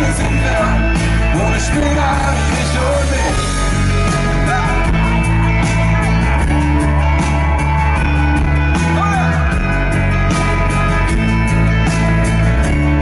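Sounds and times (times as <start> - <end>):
bass guitar: 0.0 - 13.0
steady drum beat: 0.0 - 13.0.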